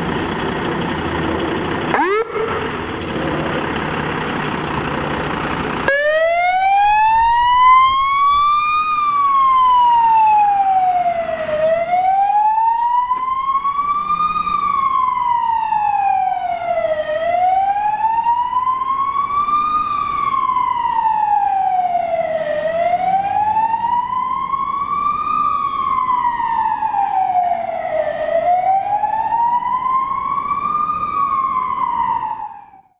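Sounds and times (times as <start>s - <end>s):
fire engine siren wailing: 0.0s - 32.9s.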